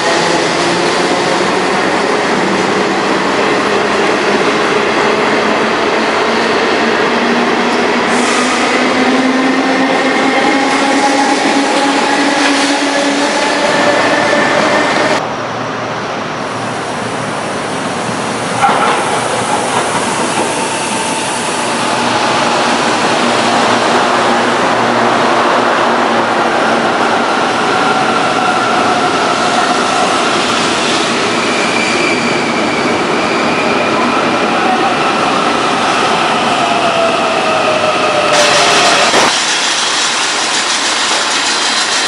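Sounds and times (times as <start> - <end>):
train wheels rumbling on rail: 0.0 - 15.3, 15.9 - 42.0.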